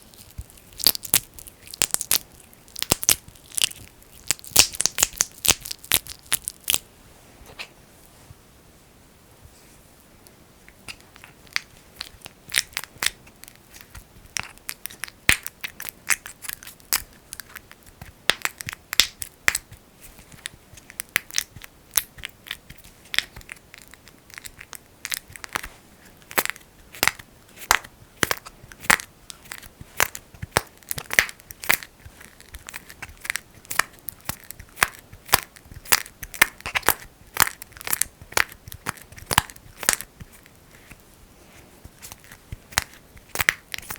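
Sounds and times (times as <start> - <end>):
sticky crackles of petroleum jelly: 0.0 - 6.9, 10.9 - 41.1, 41.9 - 43.9.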